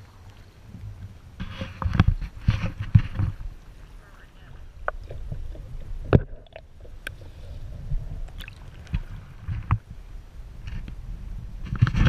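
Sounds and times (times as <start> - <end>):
muffled underwater water sloshing: 0.0 - 12.0.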